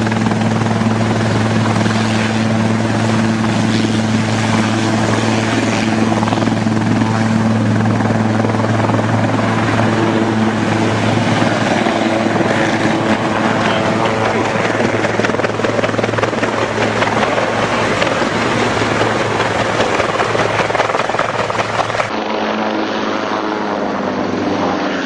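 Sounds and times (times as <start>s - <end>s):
helicopter running: 0.0s - 25.0s.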